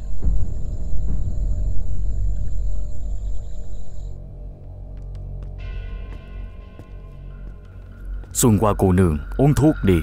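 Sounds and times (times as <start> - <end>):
soft background score music: 0.0 - 10.0.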